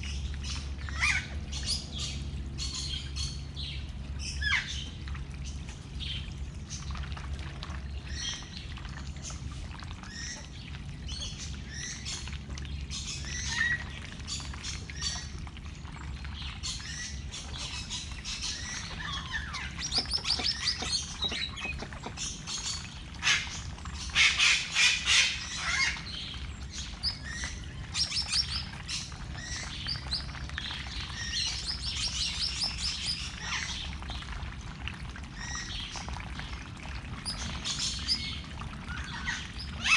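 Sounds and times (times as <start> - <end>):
birds chirping and twittering: 0.0 - 7.1, 7.8 - 34.3, 35.3 - 39.9
steady low hum: 0.0 - 39.9.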